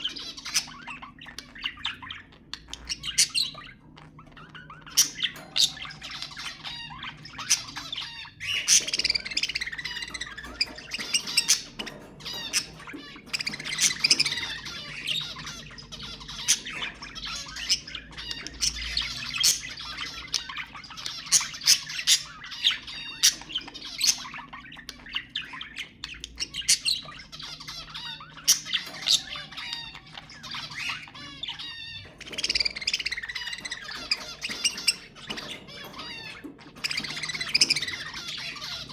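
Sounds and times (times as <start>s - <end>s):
bird chirps and squawks: 0.0s - 38.9s
budgerigars chattering and warbling: 0.0s - 38.9s.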